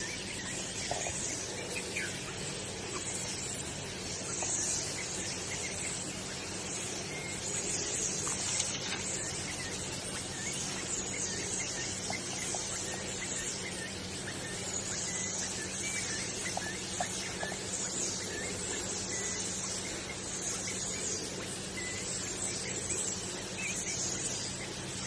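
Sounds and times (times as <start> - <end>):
insect-like hiss: 0.0 - 25.0.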